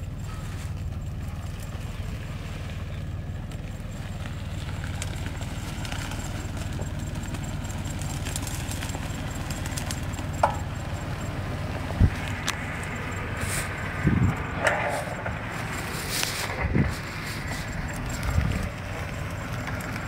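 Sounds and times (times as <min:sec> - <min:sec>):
car engine rumbling: 0:00.0 - 0:20.0
grass crackling against vehicle: 0:00.0 - 0:20.0.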